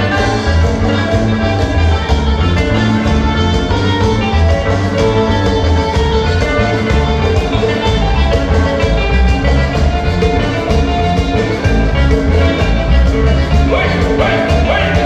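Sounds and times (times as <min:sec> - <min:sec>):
live latin dance band: 0:00.0 - 0:15.0.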